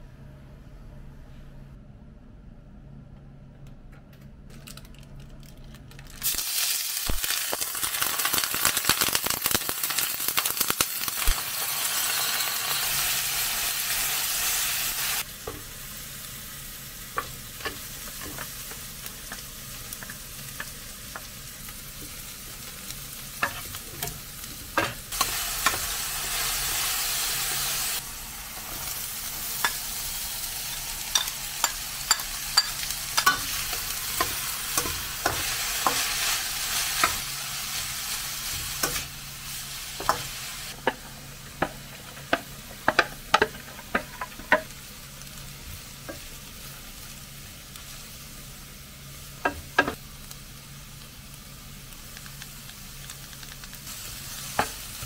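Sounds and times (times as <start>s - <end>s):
food sizzling in a hot pan: 6.2s - 55.0s.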